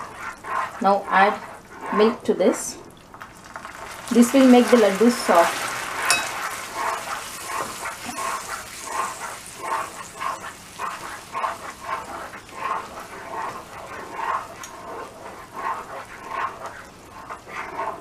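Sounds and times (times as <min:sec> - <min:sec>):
spatula stirring in a pan: 0:00.0 - 0:18.0
syrup bubbling: 0:00.0 - 0:18.0.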